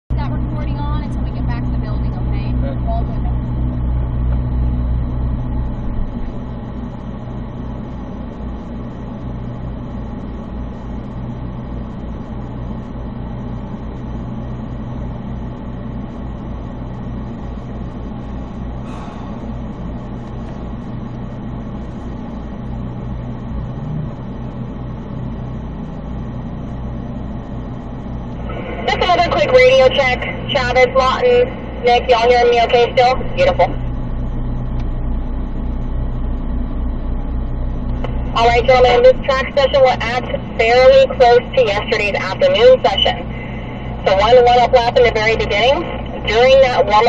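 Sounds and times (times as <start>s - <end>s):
car engine idling: 0.1s - 47.0s.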